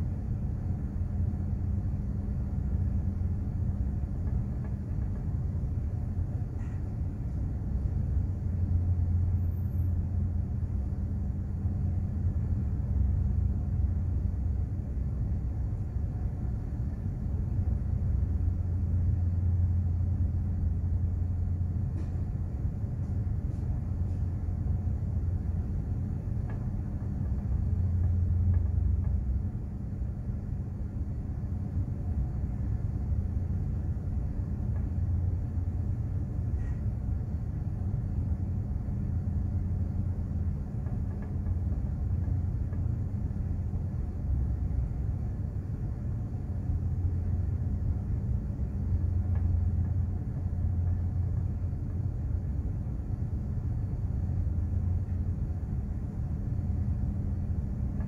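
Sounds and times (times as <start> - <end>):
ship engine droning: 0.0 - 58.0.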